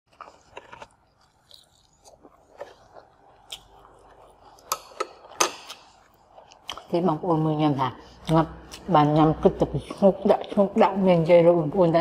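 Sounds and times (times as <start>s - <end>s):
wet crackly chewing: 0.1s - 11.8s.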